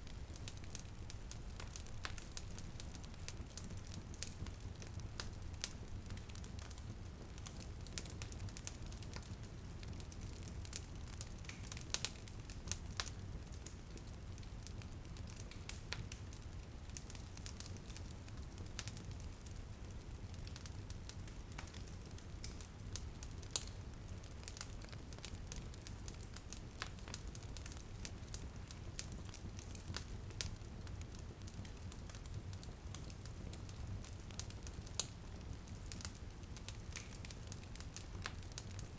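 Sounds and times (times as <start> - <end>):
low rumble of flames: 0.0 - 38.9
rain pattering on a window: 0.0 - 38.9
wood fire crackling: 0.0 - 38.9.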